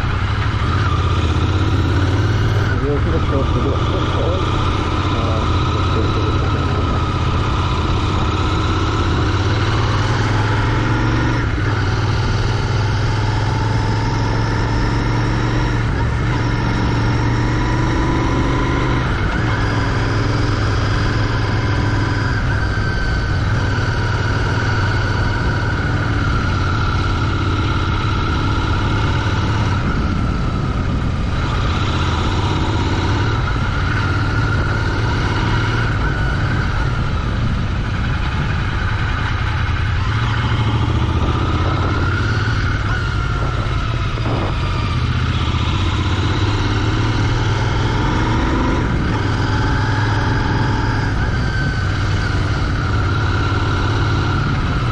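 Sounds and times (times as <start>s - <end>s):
motorcycle engine droning: 0.0s - 54.9s.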